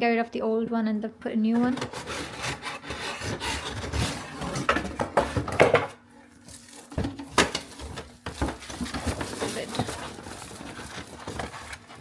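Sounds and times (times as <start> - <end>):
knocks and clatter of packaging: 1.5 - 12.0.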